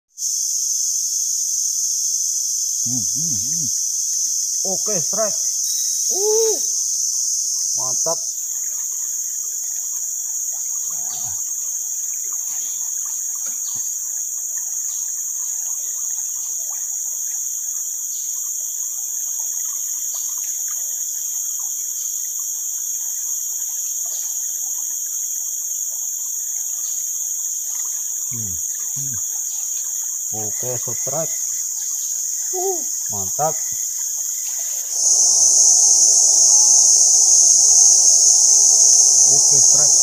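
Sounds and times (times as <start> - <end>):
insects droning: 0.1 - 40.0.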